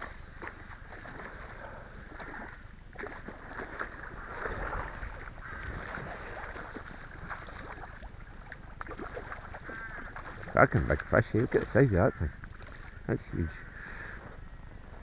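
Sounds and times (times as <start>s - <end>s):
fish splashing at surface: 0.0s - 13.0s.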